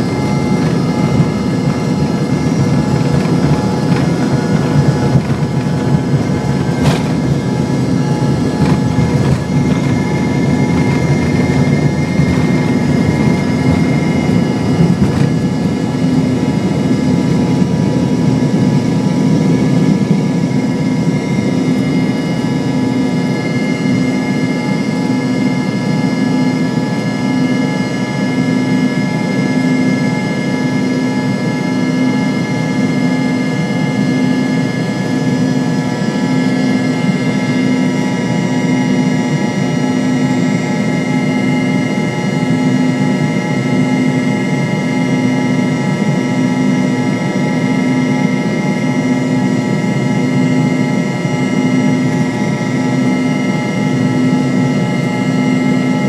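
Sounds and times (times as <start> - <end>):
high whining engine tones: 0.0 - 56.0
jet engine rumble in cabin: 0.0 - 56.0.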